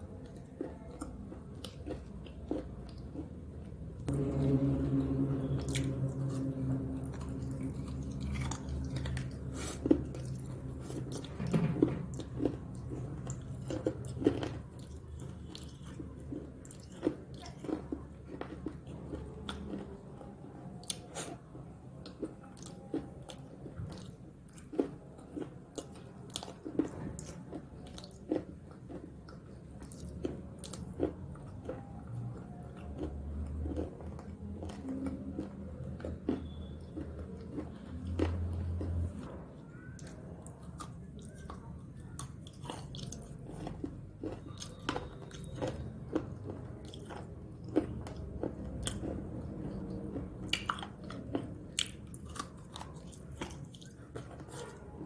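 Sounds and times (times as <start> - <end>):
low steady hum: 0.0 - 55.0
person crunching snack sticks: 0.4 - 3.3, 5.1 - 11.4, 12.0 - 20.2, 22.0 - 55.0.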